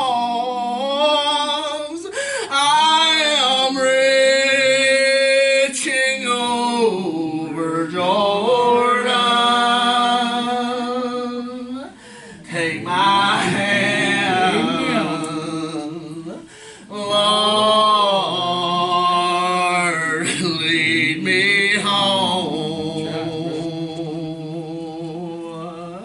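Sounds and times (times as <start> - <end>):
man singing gospel song: 0.0 - 26.0.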